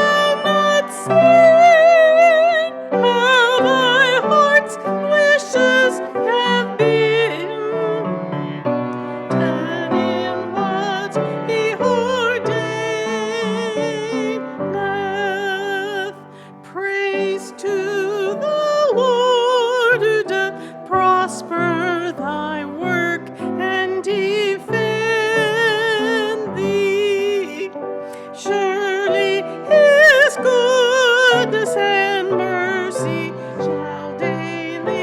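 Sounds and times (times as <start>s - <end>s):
piano chords: 0.0s - 35.0s
voices singing a hymn: 0.0s - 35.0s.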